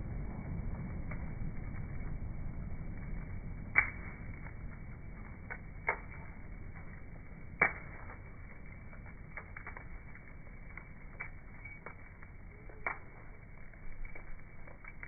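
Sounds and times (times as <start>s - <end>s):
bonfire popping: 0.0s - 15.0s
low rumble of fire: 0.0s - 15.0s.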